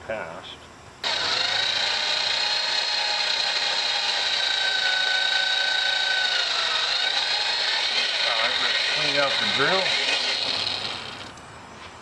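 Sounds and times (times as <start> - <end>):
drill bit cutting high tone: 1.0 - 11.4
power drill motor whine: 1.0 - 11.4.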